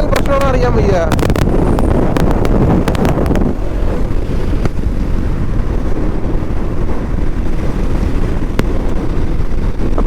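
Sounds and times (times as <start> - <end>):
motorcycle and road rumble: 0.0 - 10.0
wind buffeting microphone: 0.0 - 10.0.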